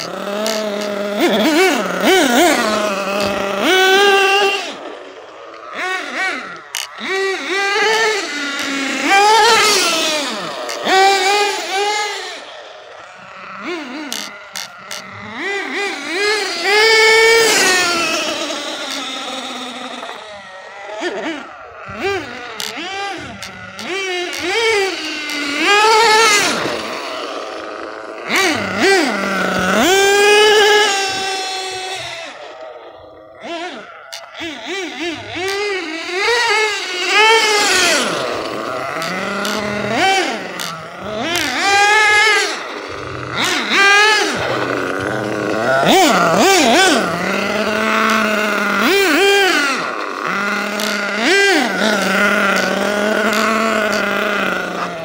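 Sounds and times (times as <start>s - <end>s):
model car engine revving: 0.0s - 55.0s.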